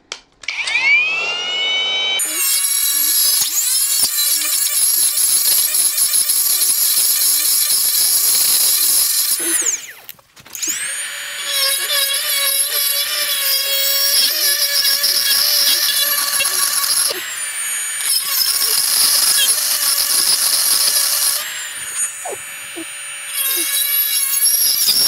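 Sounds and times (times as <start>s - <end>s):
grinder whining cutting metal: 0.5s - 25.0s.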